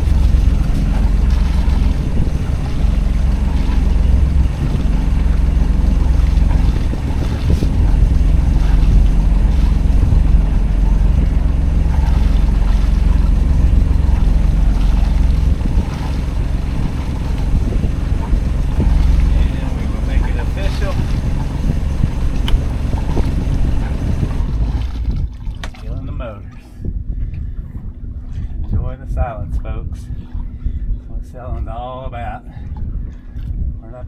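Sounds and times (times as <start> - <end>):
faint hum: 0.0 - 34.0
low rumble on a boat: 0.0 - 34.0.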